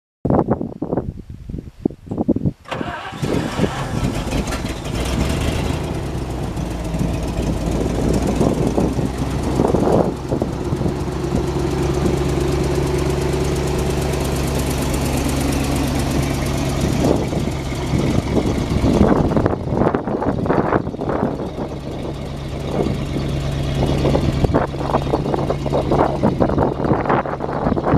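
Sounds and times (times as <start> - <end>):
truck engine cranking: 2.6 - 27.9
truck engine idling: 2.7 - 27.9.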